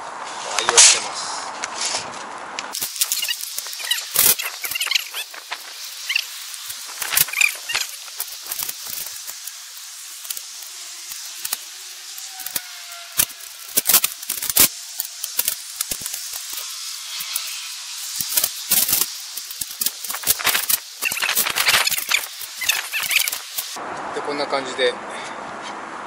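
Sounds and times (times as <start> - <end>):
steady hiss: 2.7 - 23.8.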